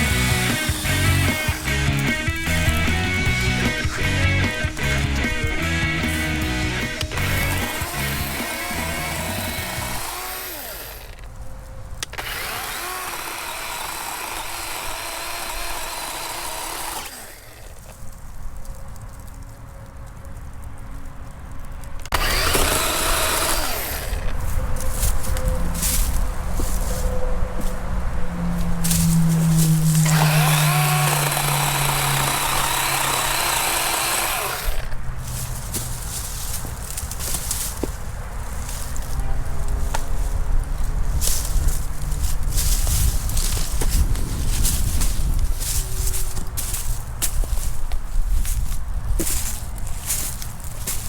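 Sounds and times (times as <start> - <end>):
chainsaw cutting branch: 0.0 - 11.3, 12.0 - 18.0, 22.0 - 26.8, 28.6 - 51.0.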